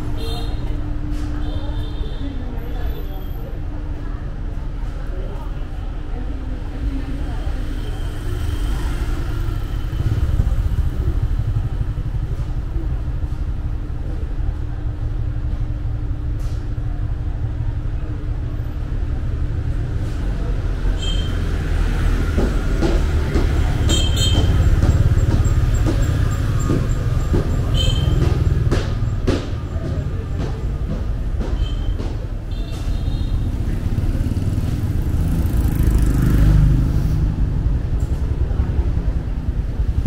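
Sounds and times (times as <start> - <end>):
street traffic rumble: 0.0 - 40.0.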